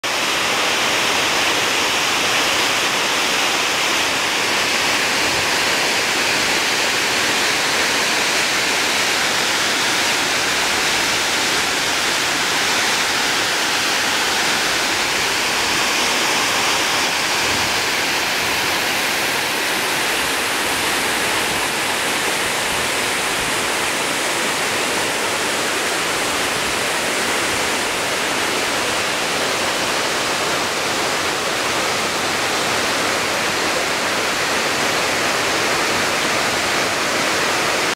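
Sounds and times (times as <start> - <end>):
waterfall pouring into pool: 0.0 - 37.9.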